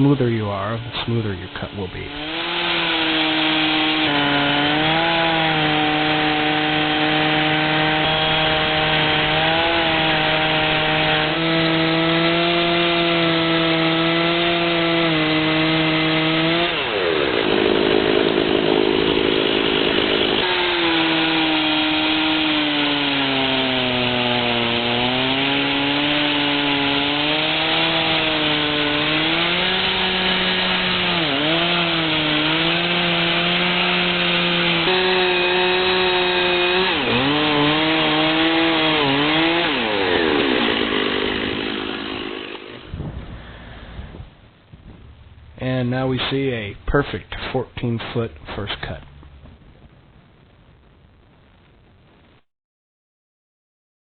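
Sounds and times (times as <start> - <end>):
chainsaw cutting through log: 0.0 - 43.8.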